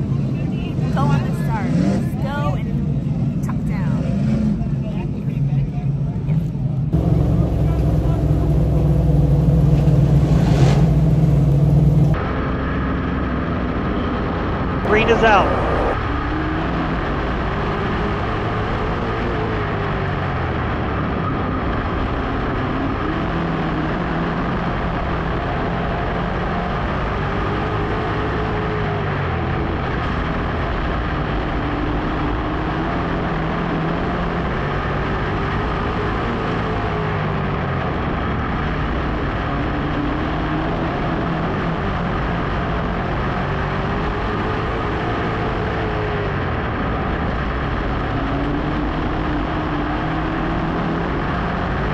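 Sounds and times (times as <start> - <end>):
wind and road noise: 0.0 - 51.9
race car engine revving: 6.9 - 51.9.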